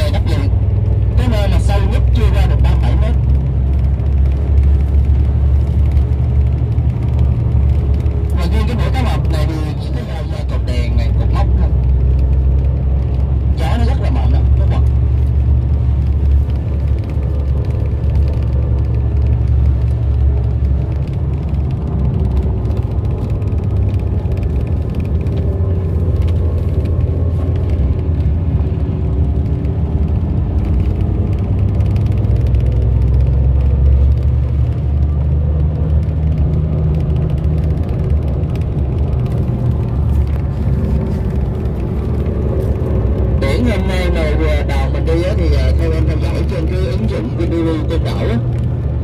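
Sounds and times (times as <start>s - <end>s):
road noise: 0.0s - 49.0s
vehicle engine rumble: 0.0s - 49.0s.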